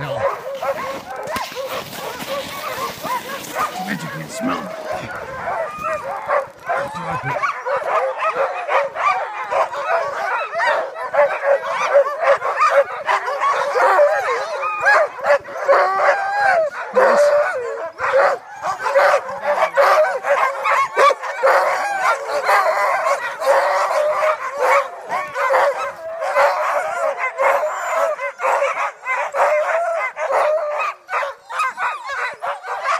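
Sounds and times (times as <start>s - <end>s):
dogs barking and yelping: 0.0s - 32.9s.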